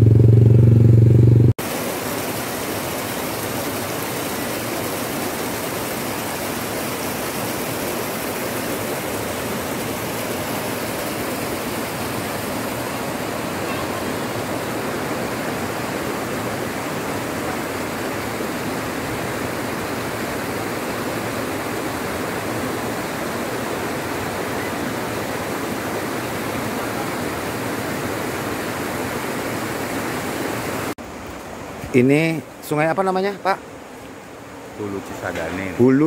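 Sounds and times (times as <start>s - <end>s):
river rushing over boulders: 1.6s - 36.0s.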